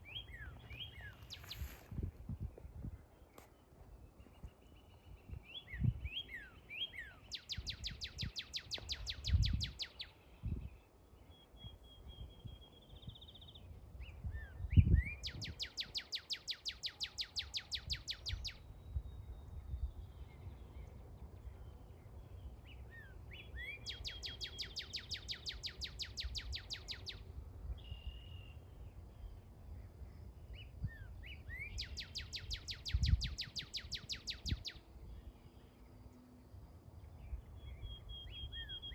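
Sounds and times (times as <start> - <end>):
bird singing whistles and trills: 0.0 - 2.6, 4.1 - 36.2, 37.0 - 38.9.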